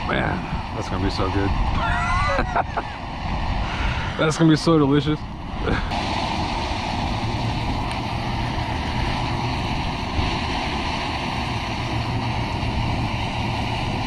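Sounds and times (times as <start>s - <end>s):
camping stove burner roaring: 0.0s - 14.0s.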